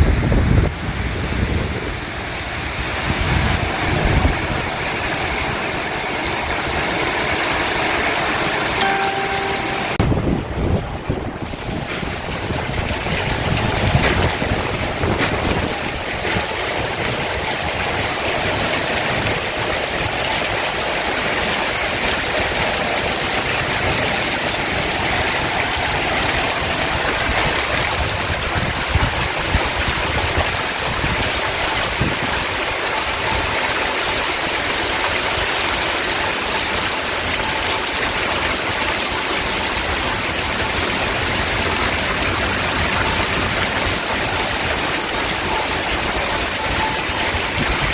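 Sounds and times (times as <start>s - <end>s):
wind gusts: 0.0s - 8.8s, 10.0s - 47.9s
heavy rain pouring: 0.0s - 47.9s.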